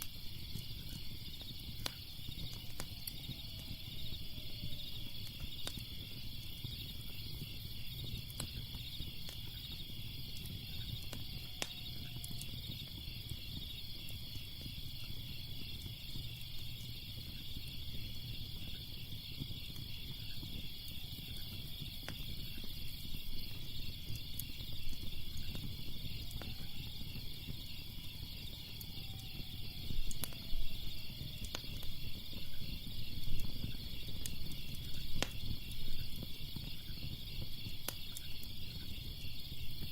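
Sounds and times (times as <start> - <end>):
crickets chirping: 0.0 - 39.9
fire crackling: 0.0 - 39.9.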